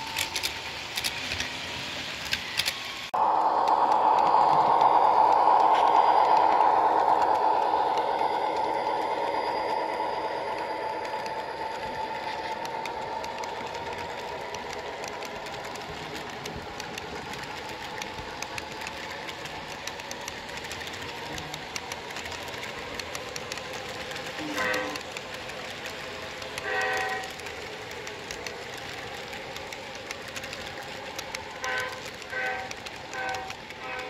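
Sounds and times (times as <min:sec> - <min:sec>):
model locomotive hum: 0:00.0 - 0:34.0
train wheels clicking over track: 0:00.0 - 0:34.0.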